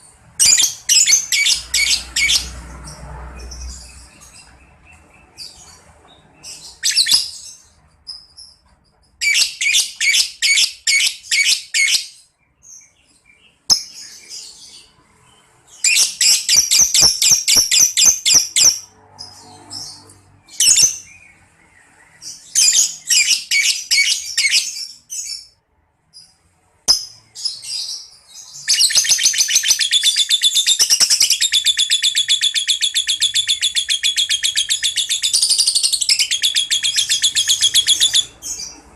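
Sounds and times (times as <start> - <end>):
bird chirping and trilling: 0.4 - 38.9.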